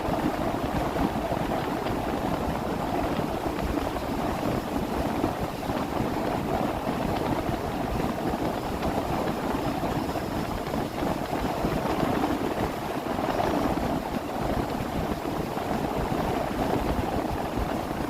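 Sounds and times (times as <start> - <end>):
wind and water rushing: 0.0 - 18.0.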